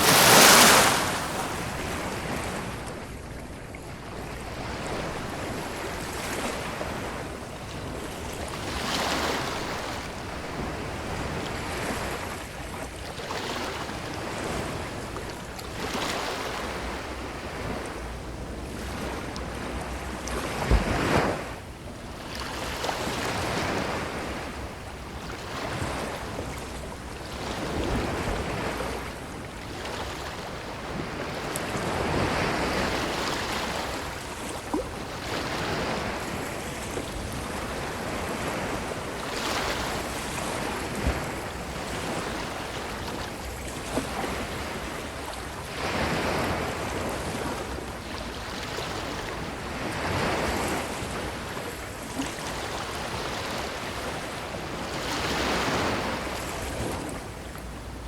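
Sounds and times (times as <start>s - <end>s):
ocean waves on beach: 0.0s - 58.0s.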